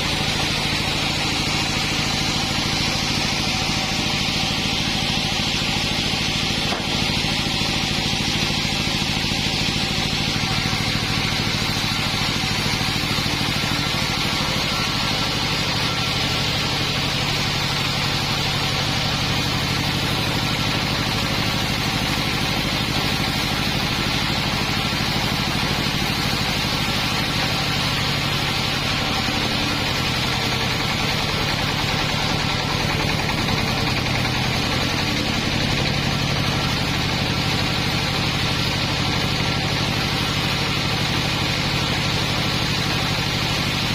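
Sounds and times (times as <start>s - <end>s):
sawmill engine running: 0.0s - 43.9s.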